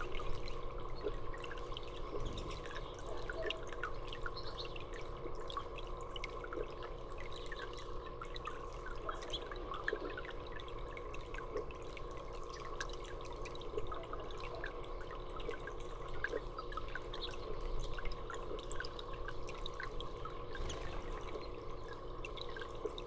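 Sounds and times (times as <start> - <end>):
low steady hum: 0.0 - 23.0
water dripping and trickling: 0.0 - 23.0.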